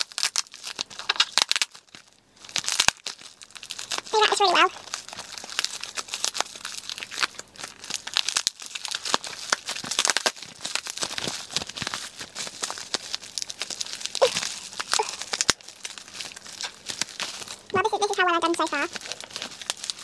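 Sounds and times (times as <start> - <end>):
bubble wrap crackling: 0.0 - 20.0.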